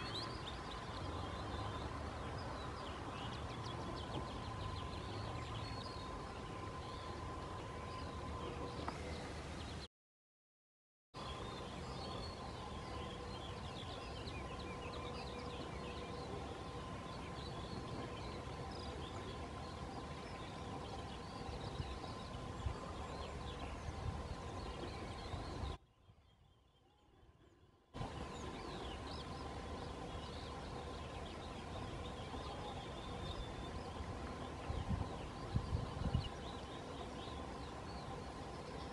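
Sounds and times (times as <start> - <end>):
small birds chirping and singing: 0.0 - 9.9, 11.2 - 38.9.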